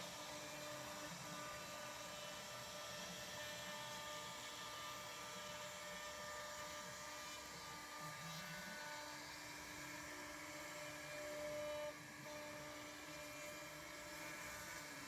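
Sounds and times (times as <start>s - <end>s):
router spindle whirring: 0.0s - 15.0s.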